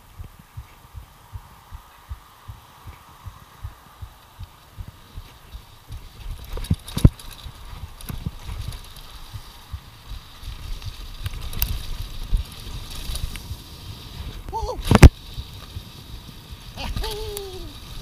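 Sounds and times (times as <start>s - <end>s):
bike tyres rolling over dirt: 0.0s - 18.0s
bike rattling over bumps: 2.5s - 18.0s.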